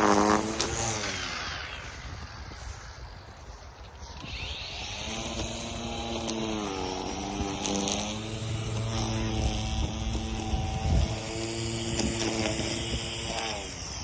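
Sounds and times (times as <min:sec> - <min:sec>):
small engine of power tool revving: 0:00.0 - 0:14.0.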